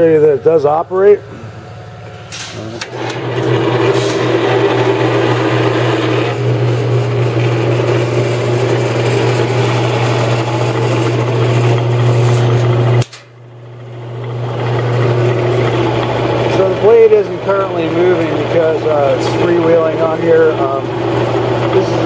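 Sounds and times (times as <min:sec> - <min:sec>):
bandsaw motor humming: 0:00.0 - 0:22.0.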